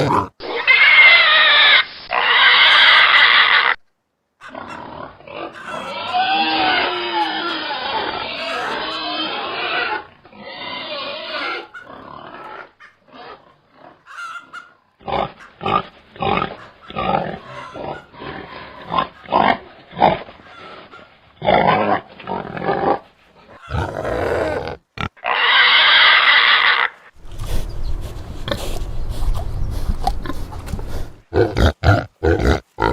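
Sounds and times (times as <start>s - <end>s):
pigs grunting: 0.0s - 0.8s, 4.4s - 32.9s.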